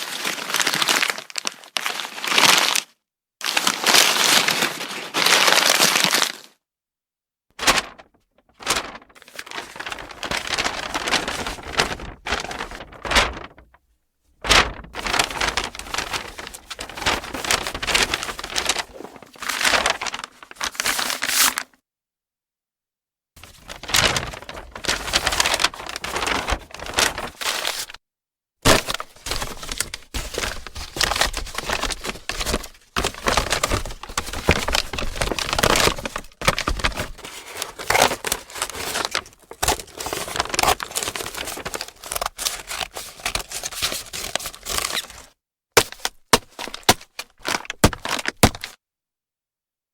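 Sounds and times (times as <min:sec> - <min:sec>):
paper bag crinkling: 0:00.0 - 0:06.5, 0:07.6 - 0:13.7, 0:14.4 - 0:21.7, 0:23.4 - 0:28.0, 0:28.7 - 0:48.8.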